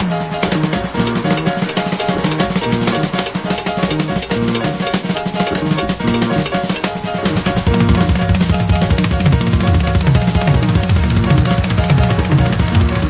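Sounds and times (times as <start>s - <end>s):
high-pitched insect chorus: 0.0s - 13.0s
jazz fusion music: 0.0s - 13.0s.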